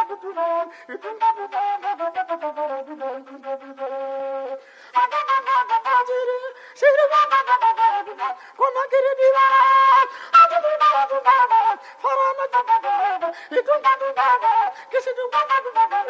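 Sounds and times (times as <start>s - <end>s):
flute-like melody: 0.0s - 16.0s.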